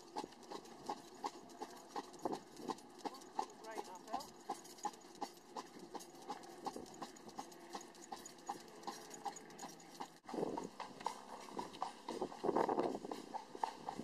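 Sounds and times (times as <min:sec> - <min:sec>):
horse hooves clip-clopping on pavement: 0:00.0 - 0:14.0.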